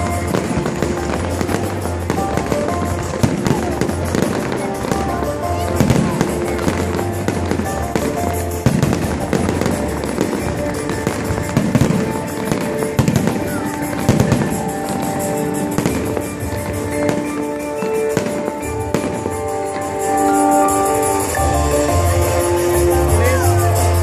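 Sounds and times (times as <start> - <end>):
fireworks booming and crackling: 0.0 - 24.0
music with sustained notes: 0.0 - 24.0.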